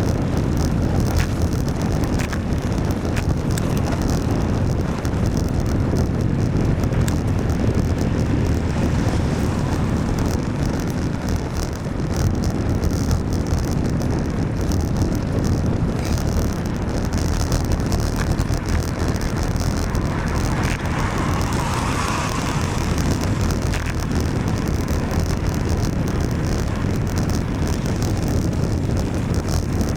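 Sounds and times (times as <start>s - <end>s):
rain: 0.0s - 29.9s
road and traffic noise: 0.0s - 29.9s
wind rumble on microphone: 0.0s - 29.9s.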